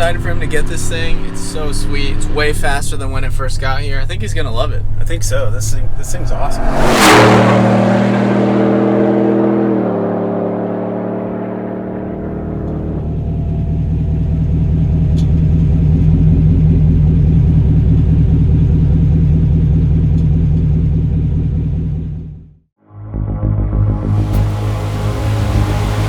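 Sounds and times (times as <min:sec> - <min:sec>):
pickup truck exhaust rumble: 0:00.0 - 0:22.5.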